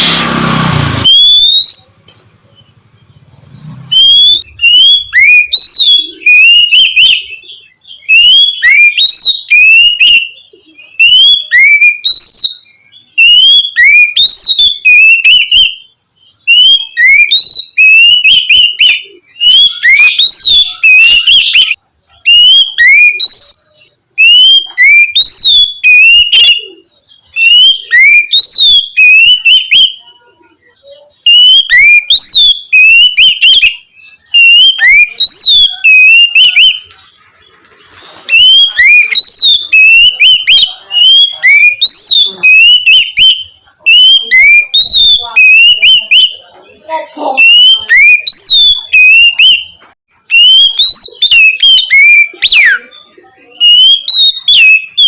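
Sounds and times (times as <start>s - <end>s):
bird singing whistled phrases: 1.0s - 2.0s, 2.6s - 37.0s, 38.3s - 55.0s.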